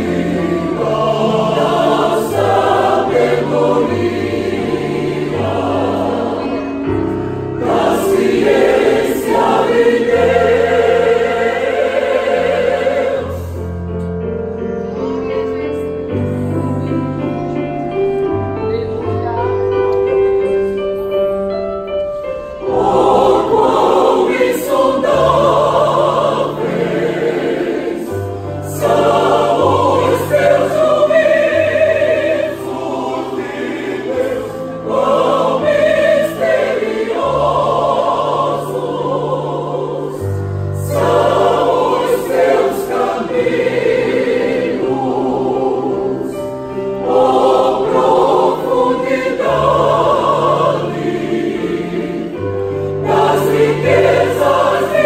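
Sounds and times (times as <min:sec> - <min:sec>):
choir singing a hymn: 0:00.0 - 0:14.7, 0:15.8 - 0:55.0.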